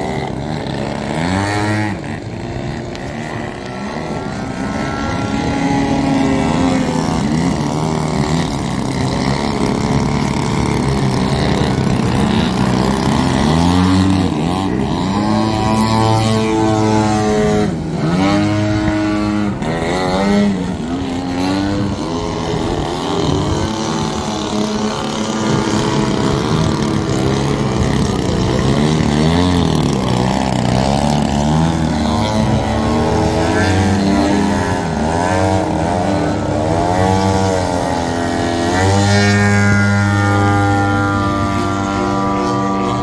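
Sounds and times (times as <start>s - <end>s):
model plane engine: 0.0s - 43.0s.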